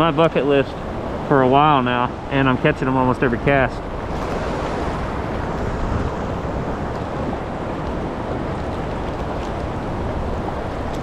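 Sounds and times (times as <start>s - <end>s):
river current rushing: 0.0s - 11.0s
wind buffeting microphone: 0.8s - 11.0s.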